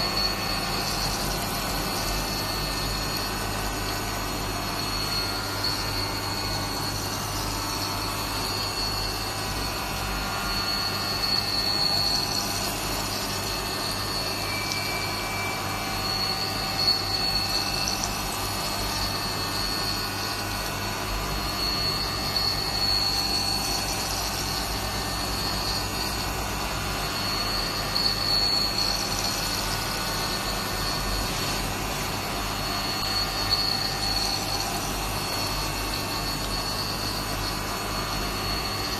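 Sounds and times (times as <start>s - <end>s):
cnc machine running: 0.0s - 38.9s
high machine whine: 0.0s - 38.9s.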